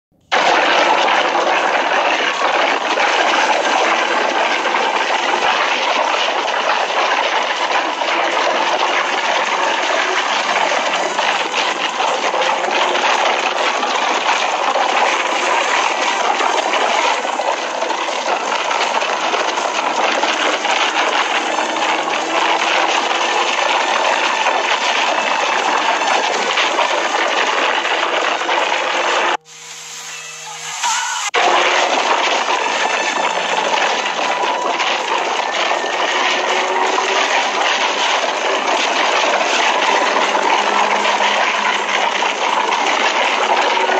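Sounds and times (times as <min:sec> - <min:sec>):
road noise: 0:08.1 - 0:43.9.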